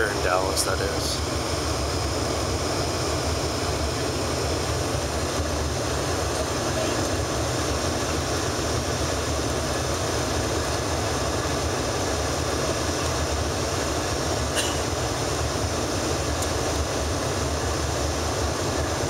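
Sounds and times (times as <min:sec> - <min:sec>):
jet cabin rumble and rush: 0:00.0 - 0:19.0.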